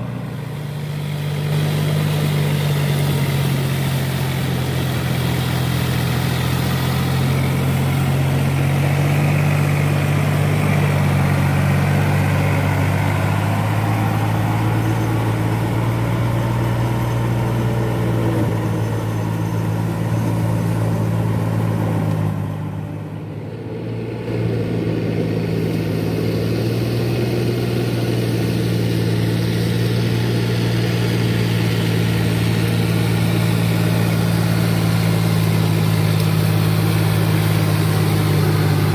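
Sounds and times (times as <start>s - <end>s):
tractor engine humming: 0.0s - 38.9s.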